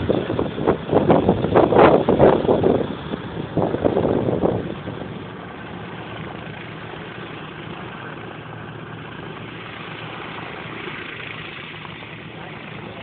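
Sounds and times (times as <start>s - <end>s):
distant propeller plane engines droning: 0.0s - 13.0s
wind buffeting microphone: 0.0s - 13.0s.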